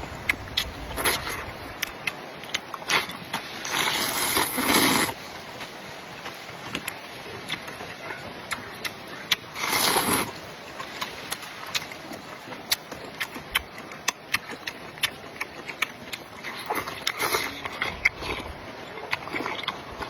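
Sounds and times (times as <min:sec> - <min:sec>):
person chewing with lip smacks: 0:00.3 - 0:05.0, 0:06.6 - 0:20.0.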